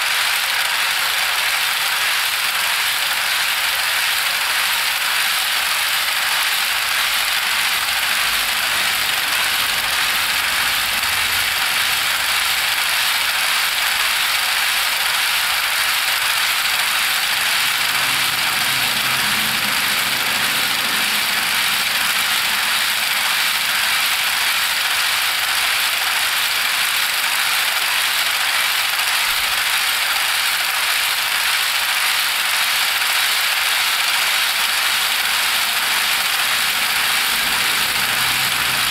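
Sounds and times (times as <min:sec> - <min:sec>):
model train wheels clicking: 0:00.0 - 0:38.9.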